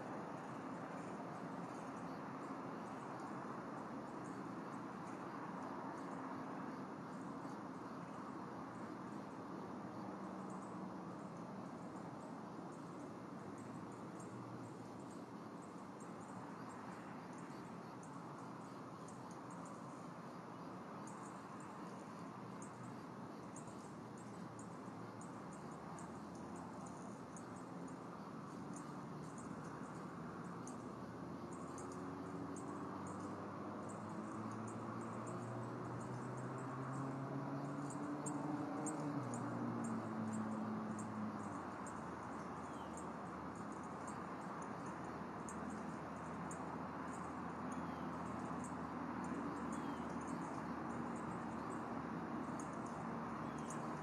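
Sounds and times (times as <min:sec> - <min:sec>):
faint high chirping ticks: 0:00.0 - 0:54.0.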